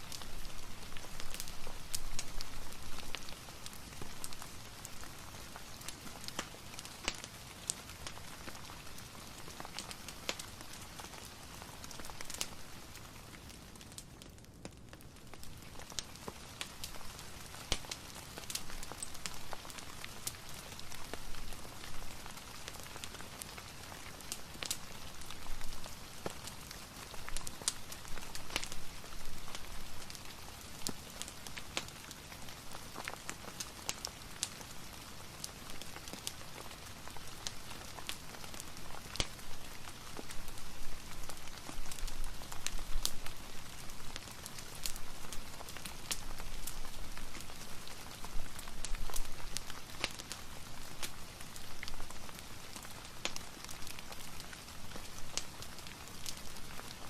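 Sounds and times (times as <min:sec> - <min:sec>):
fireplace crackling: 0:00.0 - 0:57.0
rain hissing and pattering: 0:00.0 - 0:57.0.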